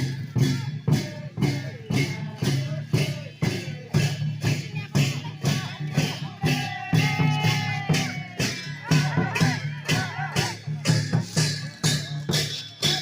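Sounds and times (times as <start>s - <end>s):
drum beating even rhythm: 0.0s - 13.0s.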